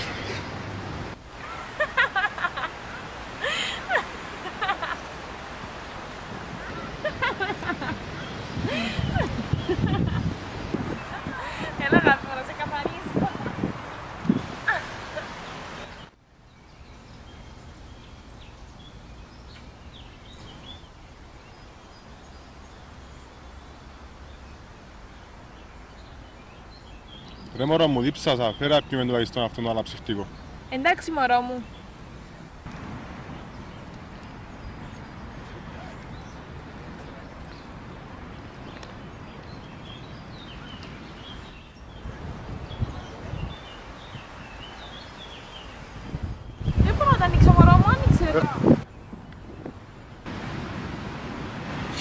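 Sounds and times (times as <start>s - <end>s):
small birds chirping: 0.0s - 50.3s
outdoor background hiss: 0.0s - 52.0s.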